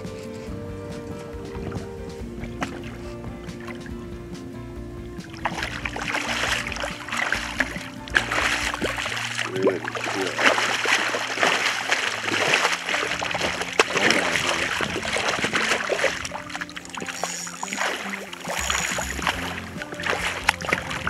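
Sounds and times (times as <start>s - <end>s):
background music: 0.0s - 21.0s
water splashing and sloshing: 0.0s - 21.0s.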